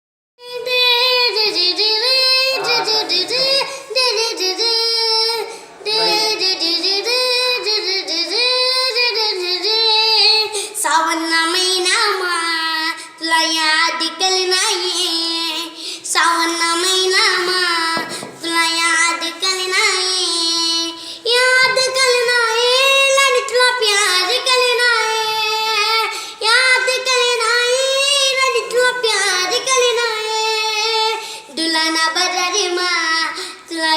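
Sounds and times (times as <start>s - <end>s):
child singing solo: 0.4s - 33.9s.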